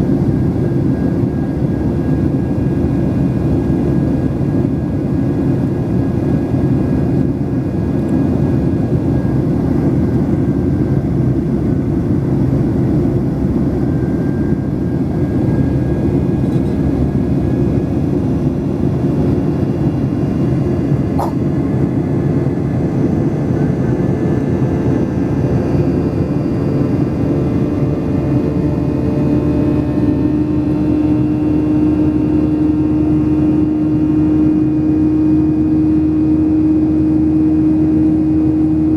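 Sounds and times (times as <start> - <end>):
jet engine rumble in cabin: 0.0 - 38.9
steady low hum: 0.0 - 38.9.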